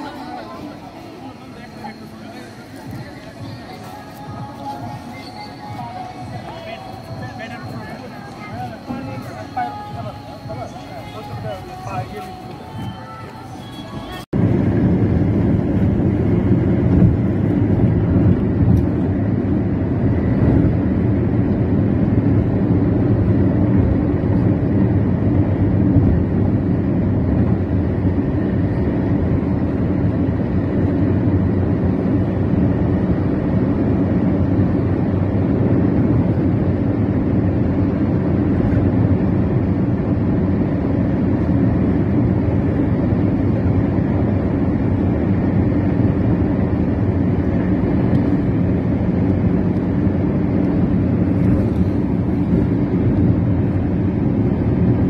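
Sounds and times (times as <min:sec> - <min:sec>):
road noise inside vehicle: 0:00.0 - 0:55.0.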